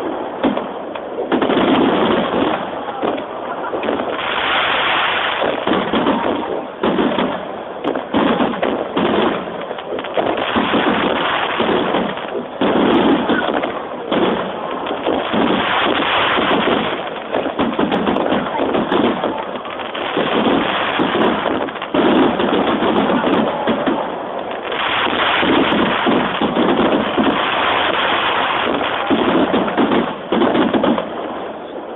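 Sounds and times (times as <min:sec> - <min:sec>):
fireworks shells bursting: 0:00.0 - 0:31.2.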